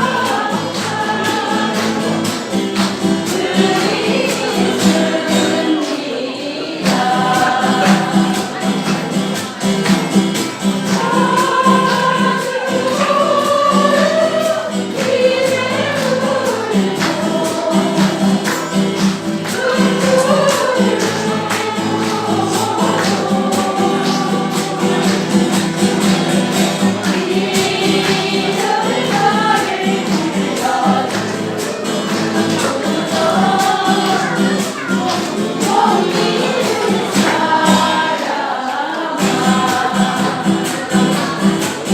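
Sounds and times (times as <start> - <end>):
group singing: 0.0 - 41.9.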